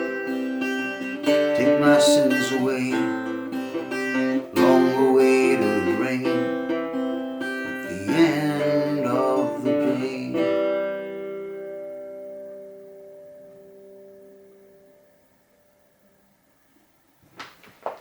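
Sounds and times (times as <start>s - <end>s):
strummed cittern: 0.0s - 16.2s.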